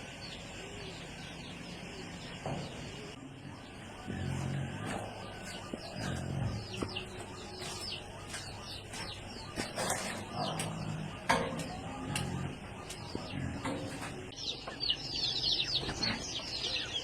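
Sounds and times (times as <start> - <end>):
farmyard birds calling: 0.0 - 17.0.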